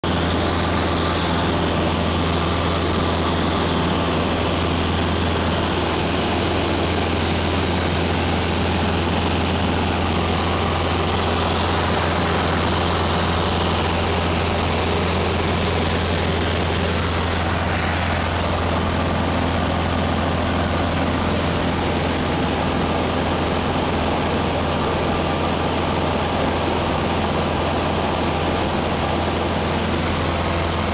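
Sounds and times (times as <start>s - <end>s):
airplane engine droning in cabin: 0.0s - 30.9s
rushing air noise: 0.0s - 30.9s.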